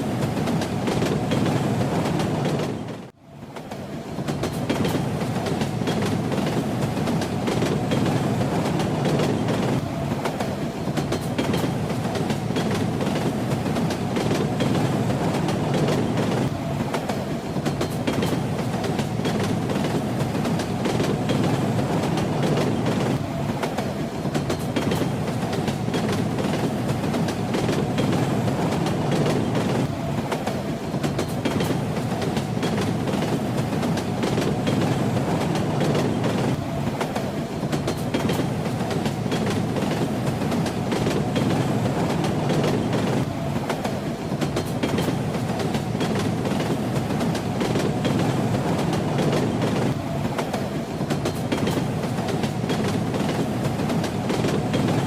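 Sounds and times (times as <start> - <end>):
train rumbling on rails: 0.0 - 55.0
wheels clacking over rail joints: 0.2 - 55.0.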